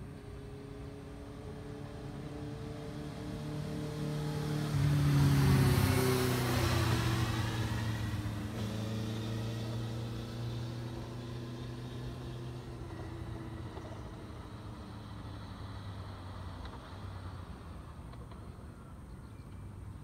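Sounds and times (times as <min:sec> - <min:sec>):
motorcycle passing at speed: 0:00.0 - 0:18.6.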